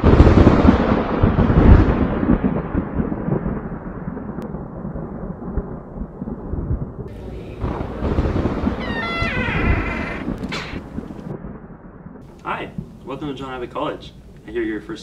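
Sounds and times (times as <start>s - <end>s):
deep rumbling boom: 0.0s - 13.0s.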